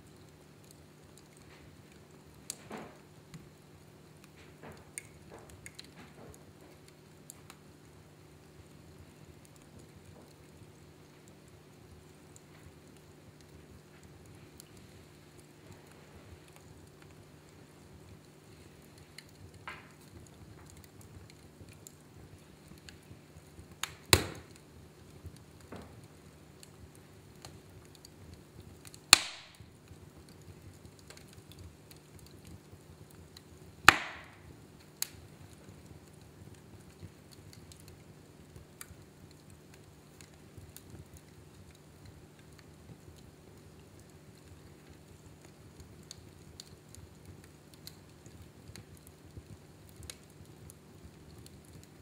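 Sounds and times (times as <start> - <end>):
fire popping and snapping: 0.0 - 52.0
wood fire burning: 0.0 - 52.0.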